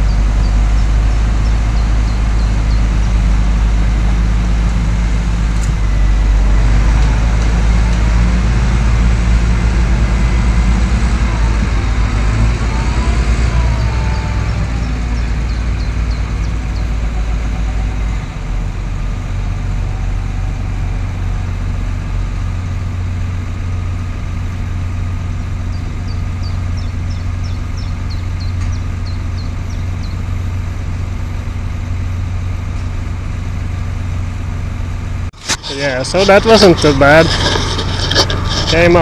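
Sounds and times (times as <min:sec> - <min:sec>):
tractor diesel engines running hard: 0:00.0 - 0:39.0.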